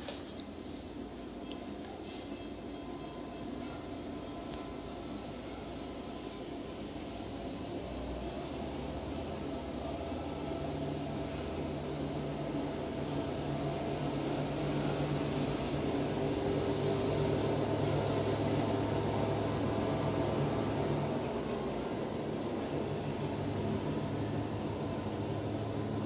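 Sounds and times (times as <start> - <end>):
thin high whine: 0.7 - 26.0
machine hum: 2.3 - 26.0.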